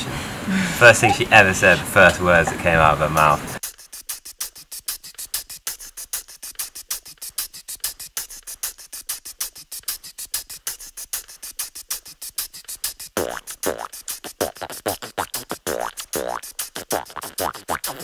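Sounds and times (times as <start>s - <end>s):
beatbox hi-hat ticks: 2.0s - 18.0s.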